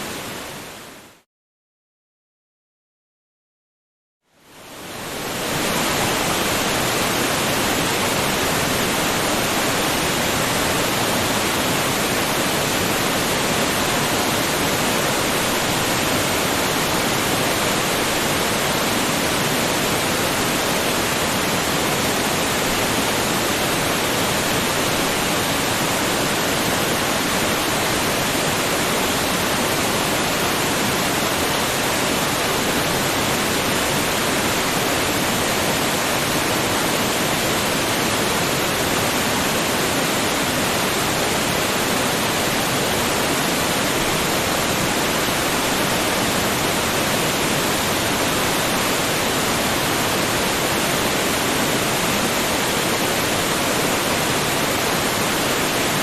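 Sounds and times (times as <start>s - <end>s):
waterfall rushing: 4.6s - 56.0s.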